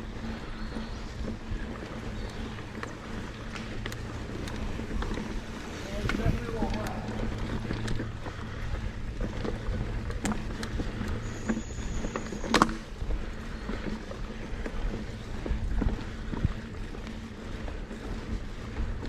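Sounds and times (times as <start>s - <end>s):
bike rattling: 0.0s - 19.0s
wind: 0.0s - 19.0s.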